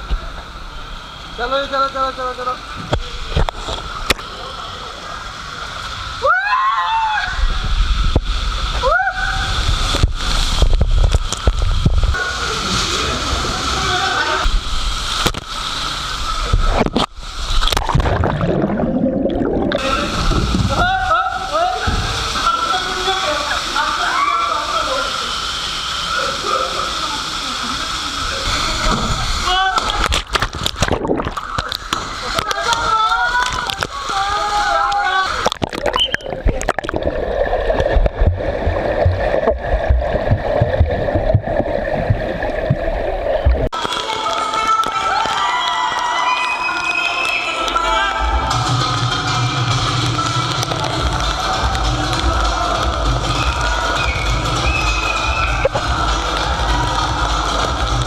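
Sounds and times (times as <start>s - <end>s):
water rushing down a slide: 0.0s - 58.0s.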